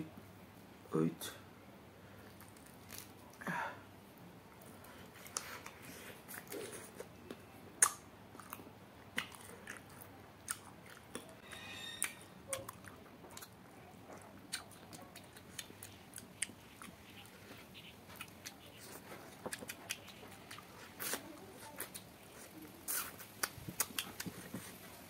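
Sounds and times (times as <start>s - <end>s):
person chewing food: 4.5s - 25.0s.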